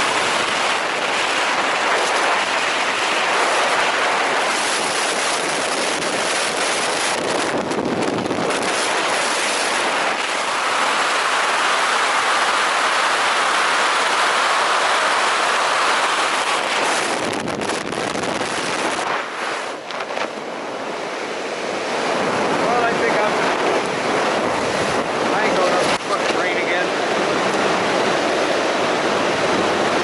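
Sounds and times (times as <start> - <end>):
loud rush of air: 0.0 - 30.0.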